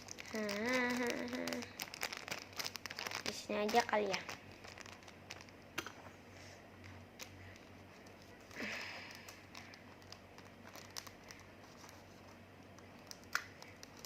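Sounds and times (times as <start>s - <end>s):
plastic sleeve crinkling: 0.0s - 14.0s.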